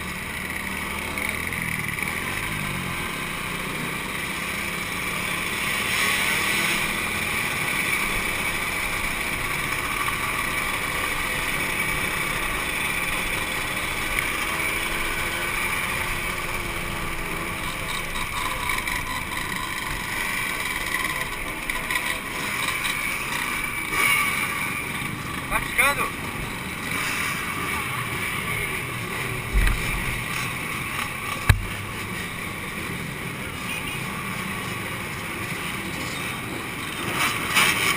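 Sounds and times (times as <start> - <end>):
two-stroke motorcycle engines running: 0.0 - 37.9.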